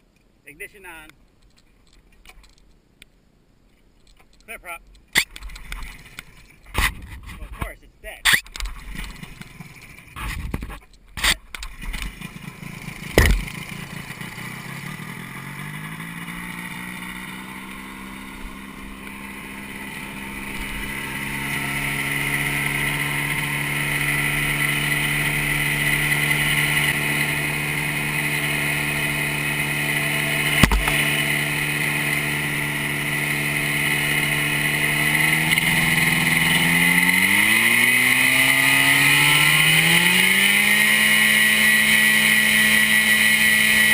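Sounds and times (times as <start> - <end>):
two-stroke engine starting and running: 5.4 - 7.0, 8.4 - 43.9.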